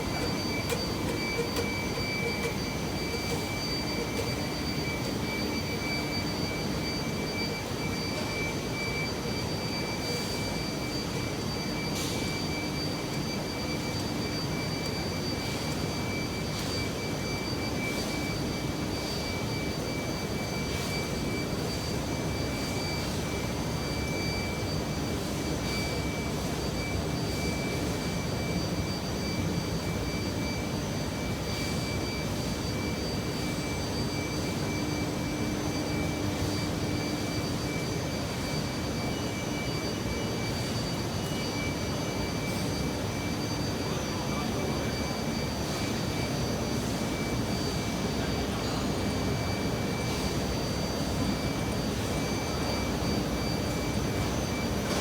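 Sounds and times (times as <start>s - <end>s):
high-pitched machine whines: 0.0s - 55.0s.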